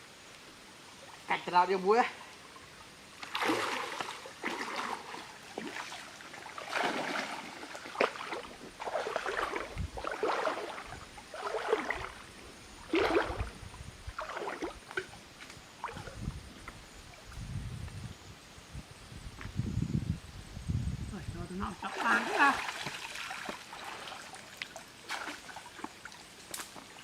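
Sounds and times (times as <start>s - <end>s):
water splashing and sloshing: 1.0s - 17.3s, 21.7s - 27.0s.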